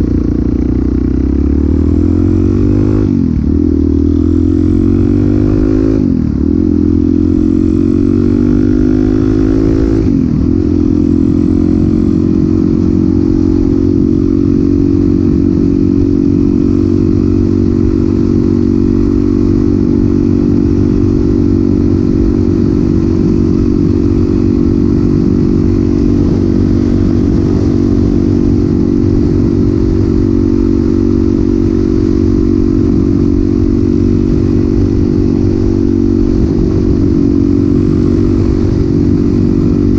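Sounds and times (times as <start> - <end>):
motorcycle engine running loud: 0.0 - 39.9.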